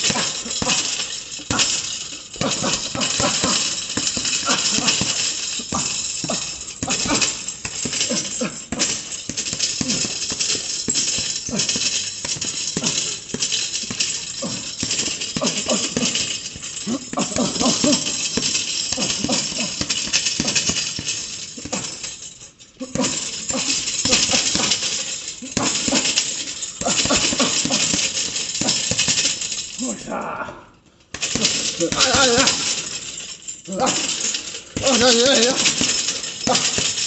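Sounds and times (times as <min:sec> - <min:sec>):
gloves punching a bag: 0:00.0 - 0:22.2, 0:22.8 - 0:29.5, 0:31.1 - 0:33.1, 0:33.7 - 0:37.0.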